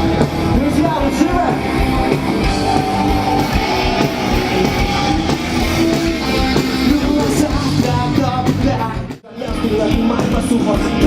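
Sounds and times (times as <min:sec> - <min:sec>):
electric guitar: 0:00.0 - 0:11.0
live rock band playing: 0:00.0 - 0:11.0.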